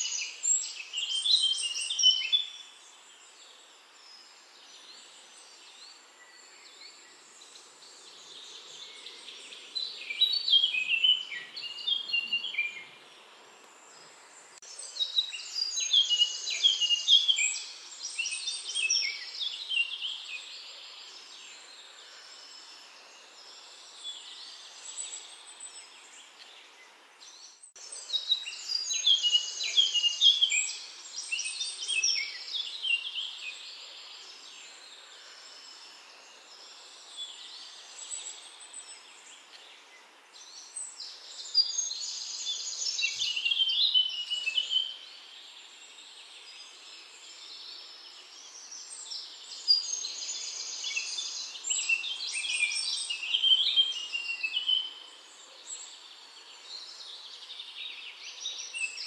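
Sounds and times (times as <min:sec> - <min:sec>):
birds chirping and trilling: 0:00.0 - 0:59.0
faint background noise: 0:00.0 - 0:59.0.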